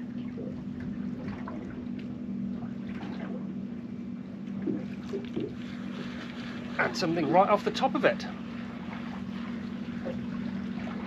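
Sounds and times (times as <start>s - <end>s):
boat engine idling: 0.0s - 11.0s
water splashing against hull: 0.0s - 11.0s.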